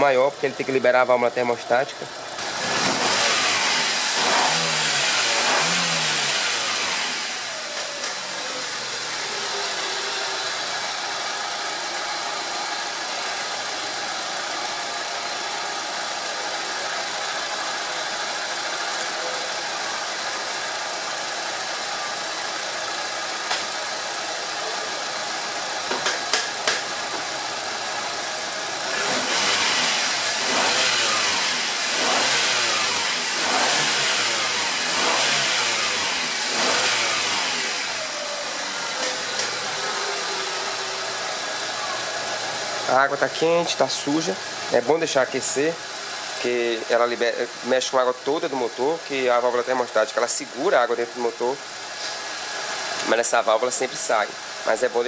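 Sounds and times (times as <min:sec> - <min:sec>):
car engine running: 0:00.2 - 0:55.0.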